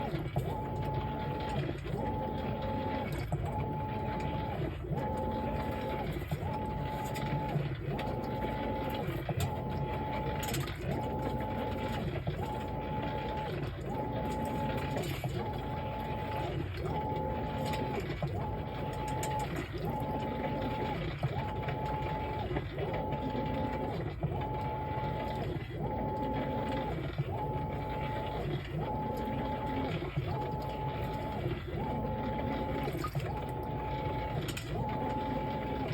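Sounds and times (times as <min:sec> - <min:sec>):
washing machine motor whining: 0:00.0 - 0:35.9.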